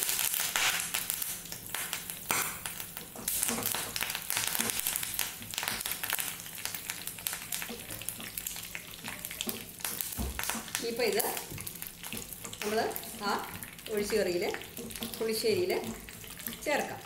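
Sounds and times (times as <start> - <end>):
spices sizzling in hot oil: 0.0 - 17.0
wooden spatula stirring pan: 2.2 - 17.0.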